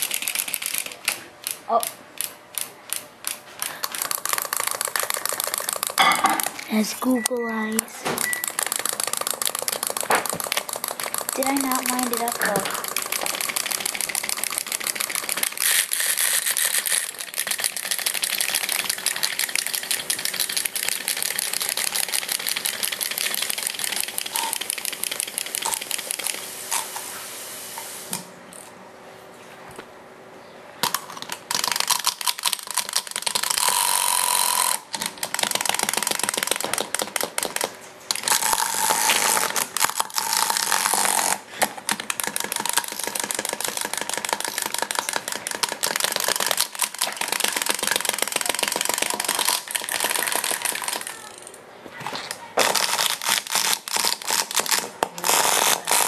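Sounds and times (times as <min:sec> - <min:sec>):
wind-up toys clicking clatter: 0:00.0 - 0:07.2, 0:08.2 - 0:26.9, 0:30.8 - 0:51.6, 0:52.3 - 0:56.0.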